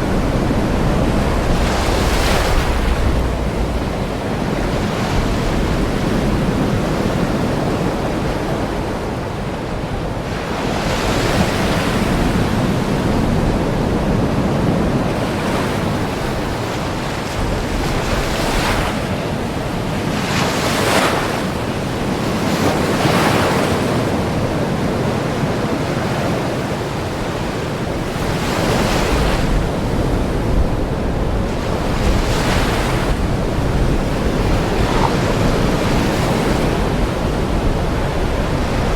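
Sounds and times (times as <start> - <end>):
ocean waves breaking on shore: 0.0 - 38.9
wind: 0.0 - 38.9.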